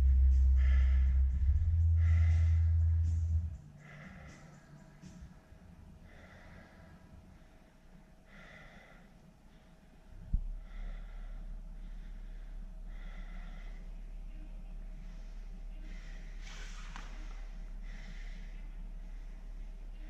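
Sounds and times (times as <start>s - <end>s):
low steady hum: 0.0s - 20.0s
noisy hissing breaths: 0.0s - 20.0s.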